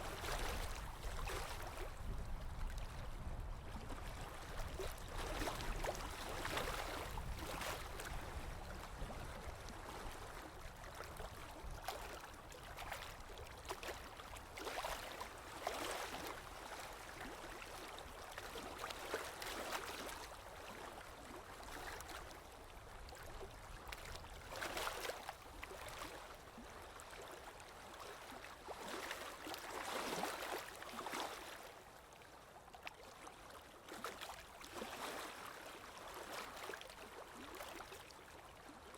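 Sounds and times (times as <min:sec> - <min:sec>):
small waves lapping and splashing: 0:00.0 - 0:38.9.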